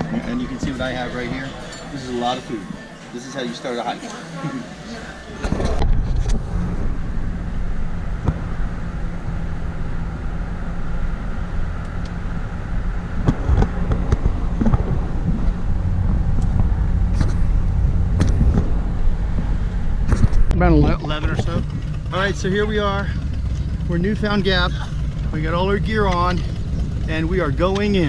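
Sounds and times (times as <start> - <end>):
car engine and road rumble: 5.2 - 28.0.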